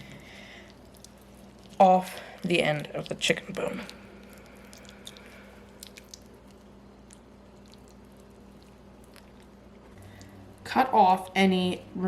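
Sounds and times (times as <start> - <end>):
wet squishing of raw meat: 0.0 - 10.7
steady low hum: 0.0 - 12.0.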